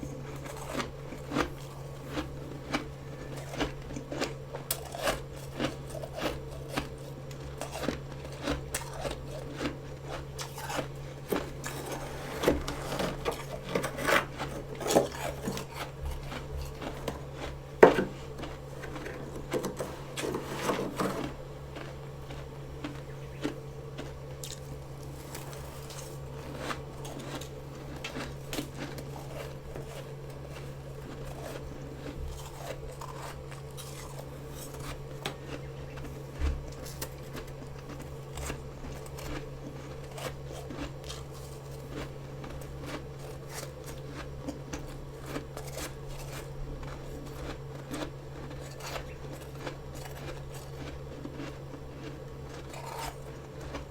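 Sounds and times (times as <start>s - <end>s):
chewing crunchy frost: 0.0s - 53.9s
steady low hum: 0.0s - 53.9s.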